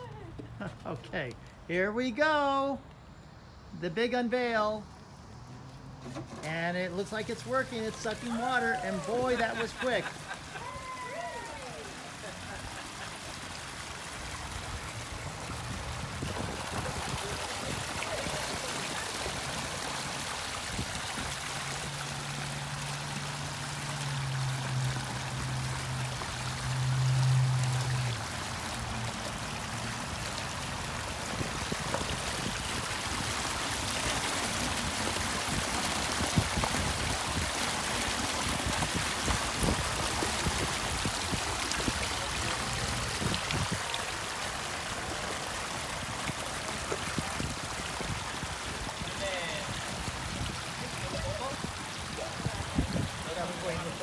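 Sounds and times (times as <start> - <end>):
small waterfall splashing trickle: 4.9 - 54.0.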